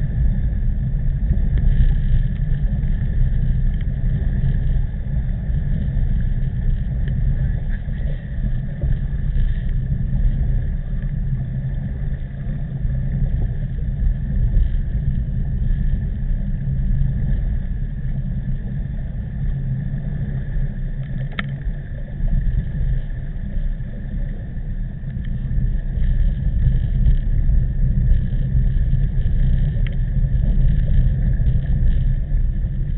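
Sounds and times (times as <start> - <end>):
faint steady whine: 0.0 - 32.9
heavy wind noise on microphone: 0.0 - 32.9.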